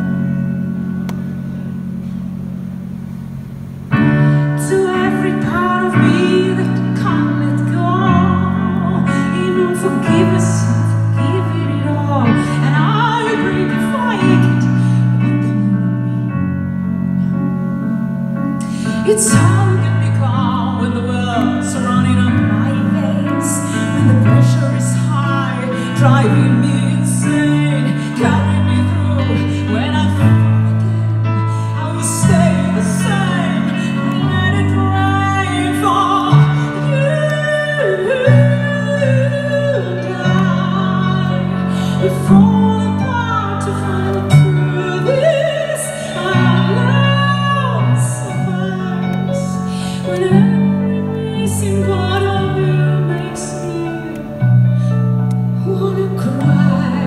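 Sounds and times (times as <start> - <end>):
keyboard chords: 0.0 - 57.0
soprano singing with vibrato: 4.3 - 16.3, 18.6 - 57.0.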